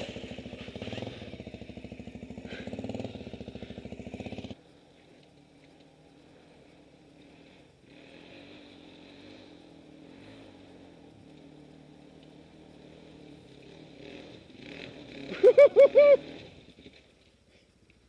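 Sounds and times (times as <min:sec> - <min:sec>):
dirt bike engines: 0:00.0 - 0:18.0.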